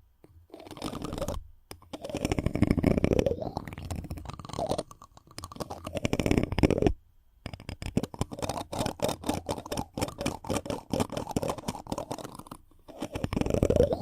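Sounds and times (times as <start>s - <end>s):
scratchy rubbing on microphone: 0.5s - 14.0s.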